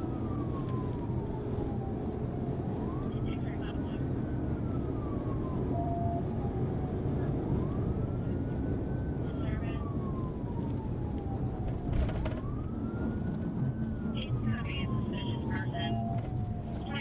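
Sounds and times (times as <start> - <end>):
engine and road noise: 0.0 - 17.0
police siren wailing: 0.0 - 17.0.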